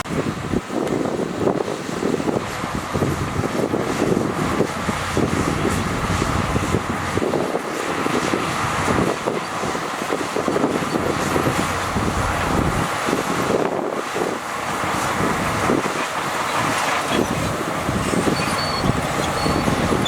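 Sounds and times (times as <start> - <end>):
diesel engine drone: 0.1 - 20.0
machinery clanking and rattling: 2.8 - 20.0.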